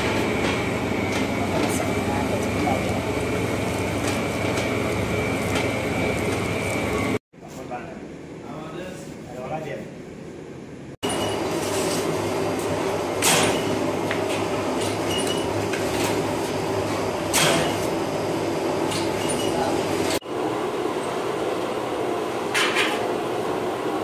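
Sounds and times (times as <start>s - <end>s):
bakery machinery hum: 0.0s - 24.0s.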